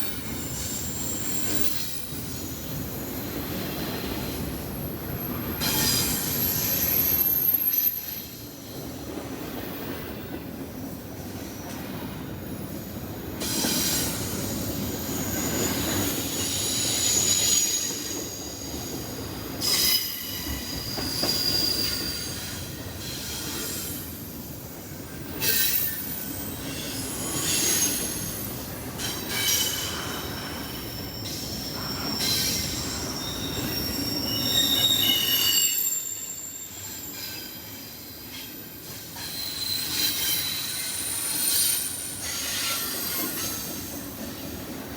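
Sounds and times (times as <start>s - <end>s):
train wheels squealing: 0.0s - 44.9s.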